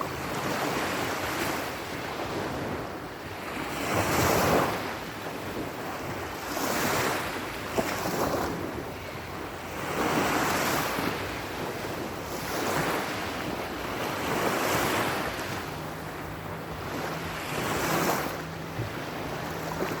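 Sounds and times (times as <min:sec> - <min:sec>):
sea waves surging and washing back: 0:00.0 - 0:20.0.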